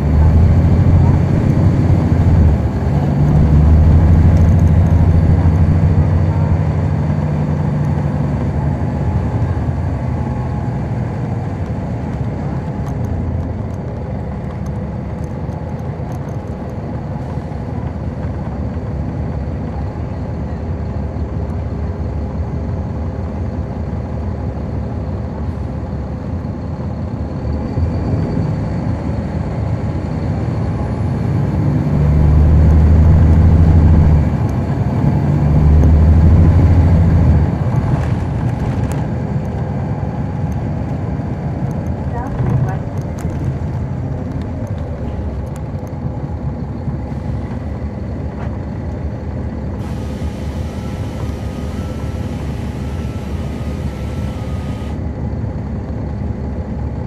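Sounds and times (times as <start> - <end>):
bus diesel engine running: 0.0 - 57.0
road noise: 0.0 - 57.0.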